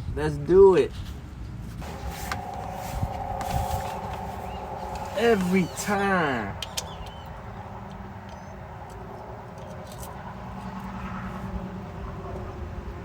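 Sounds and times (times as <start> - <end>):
engine humming: 1.7 - 13.0.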